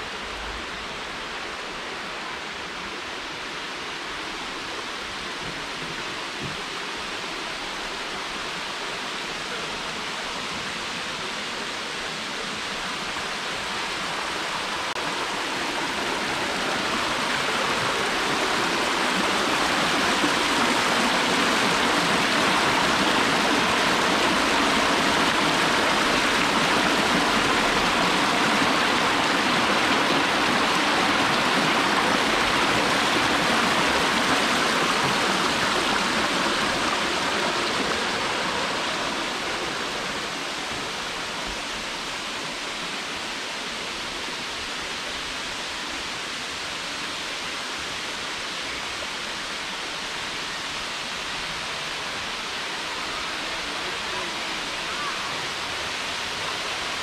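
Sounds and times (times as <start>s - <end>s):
creek rushing over rocks: 0.0s - 57.0s.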